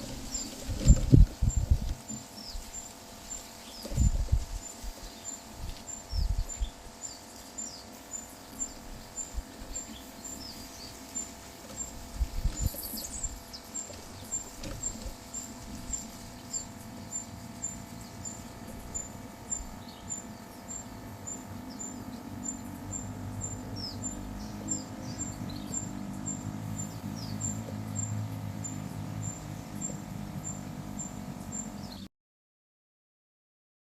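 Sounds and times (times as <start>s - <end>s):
birds chirping: 0.0s - 32.1s.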